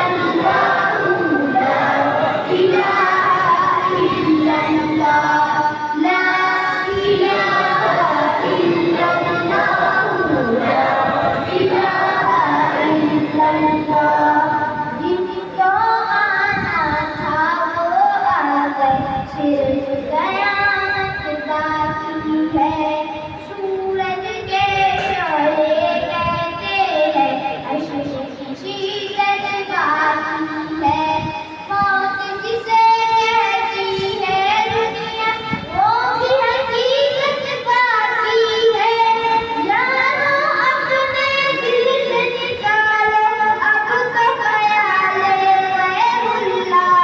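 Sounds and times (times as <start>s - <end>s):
boy singing over pa system: 0.0s - 47.0s.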